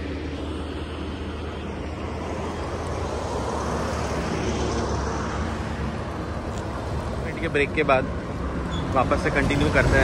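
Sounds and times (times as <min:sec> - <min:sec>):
vehicle low drone: 0:00.0 - 0:10.0.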